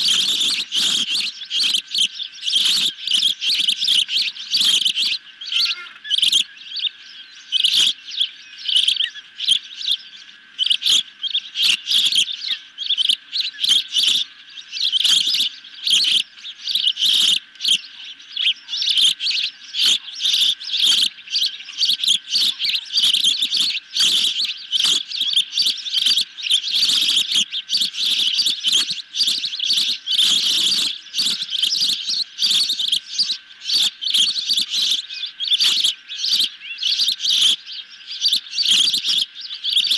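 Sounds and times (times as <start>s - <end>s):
ospreys chirping: 0.0s - 39.9s.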